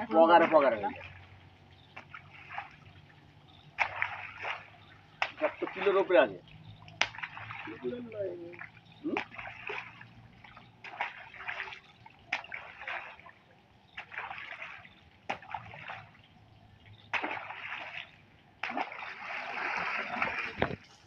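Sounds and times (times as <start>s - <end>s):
water splashing and sloshing: 0.0s - 21.0s
fish splashing into water: 1.9s - 20.8s.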